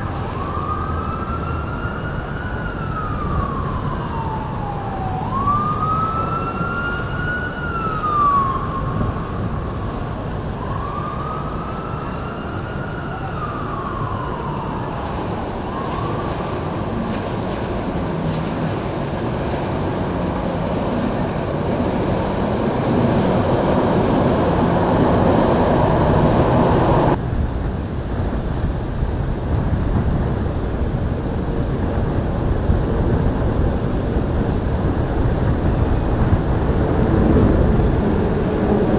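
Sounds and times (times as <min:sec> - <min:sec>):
wailing siren: 0:00.0 - 0:27.2, 0:31.3 - 0:38.9
boat engines: 0:00.0 - 0:38.9
churning water: 0:00.0 - 0:38.9.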